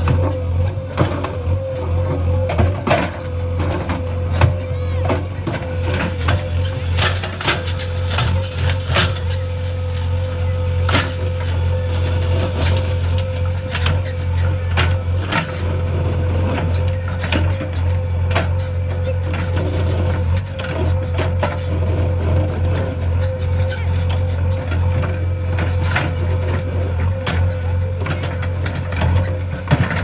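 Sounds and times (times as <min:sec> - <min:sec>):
backhoe diesel engine running: 0:00.0 - 0:30.0.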